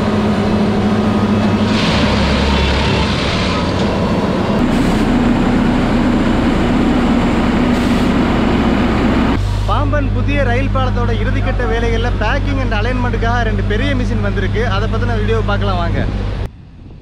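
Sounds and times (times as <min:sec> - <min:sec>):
loud engine hum: 0:00.0 - 0:16.6.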